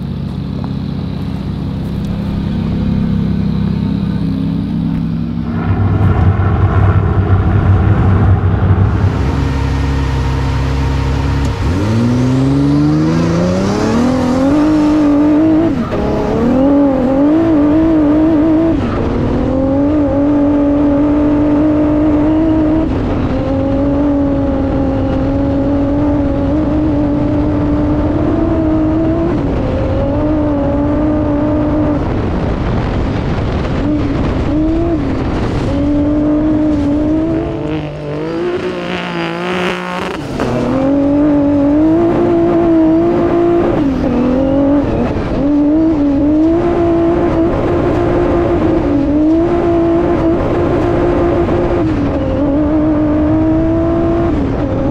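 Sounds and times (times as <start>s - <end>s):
truck engine at full throttle: 0.0s - 54.9s.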